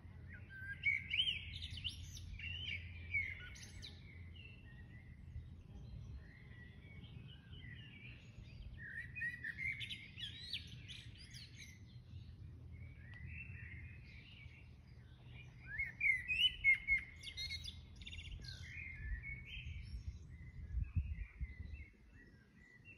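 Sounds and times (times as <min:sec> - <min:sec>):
songbirds chirping: 0:00.0 - 0:22.9.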